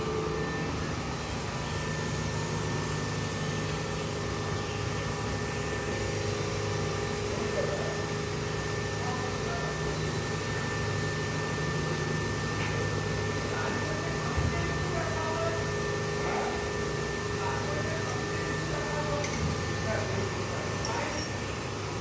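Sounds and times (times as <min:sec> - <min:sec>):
machine hum with high whine: 0:00.0 - 0:22.0.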